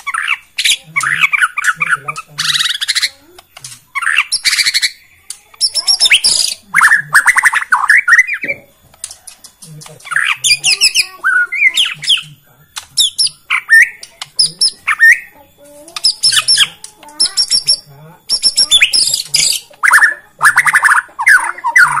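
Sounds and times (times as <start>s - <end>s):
bird singing varied song: 0.0s - 22.0s.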